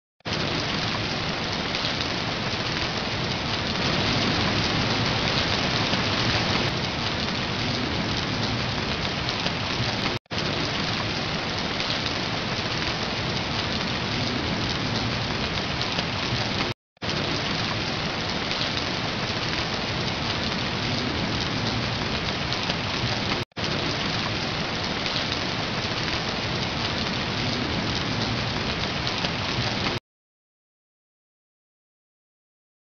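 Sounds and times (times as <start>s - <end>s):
heavy rain: 0.3s - 30.0s.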